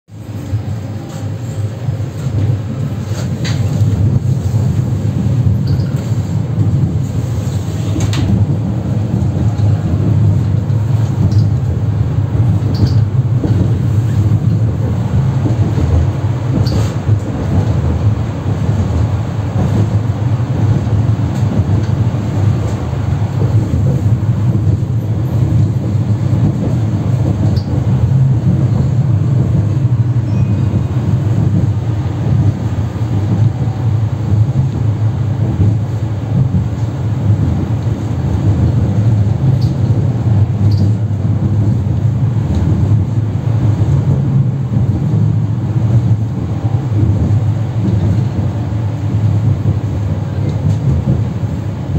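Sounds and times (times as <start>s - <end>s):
tram wheels rumbling on rails: 0.1s - 51.9s.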